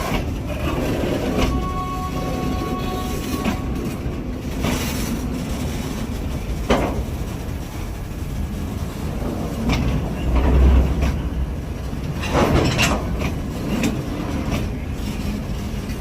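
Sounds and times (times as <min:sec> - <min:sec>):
train wheels clacking over rail joints: 0:00.0 - 0:01.7, 0:03.4 - 0:16.0
train rumbling: 0:00.0 - 0:16.0.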